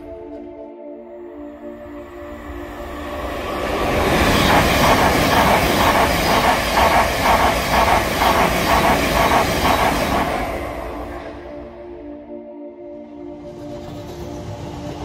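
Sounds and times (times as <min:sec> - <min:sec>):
train rushing past: 0:01.7 - 0:12.2, 0:13.1 - 0:15.0.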